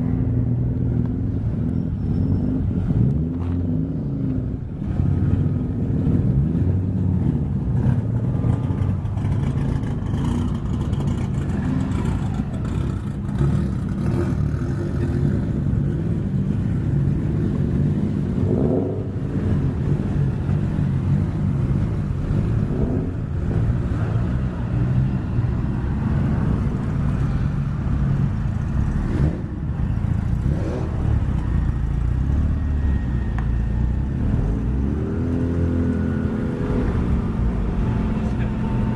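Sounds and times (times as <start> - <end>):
car engines rumbling and revving: 0.0 - 38.9.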